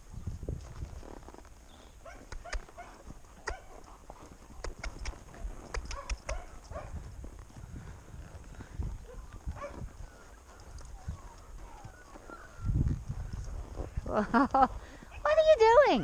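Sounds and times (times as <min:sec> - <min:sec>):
wind rumbling on microphone: 0:00.0 - 0:03.6, 0:04.2 - 0:16.0
horse hooves walking: 0:00.0 - 0:16.0.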